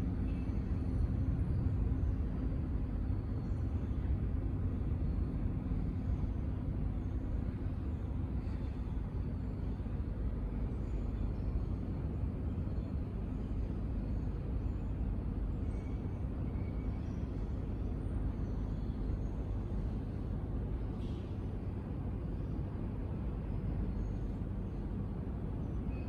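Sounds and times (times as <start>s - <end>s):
distant engines rumbling: 0.0s - 26.0s.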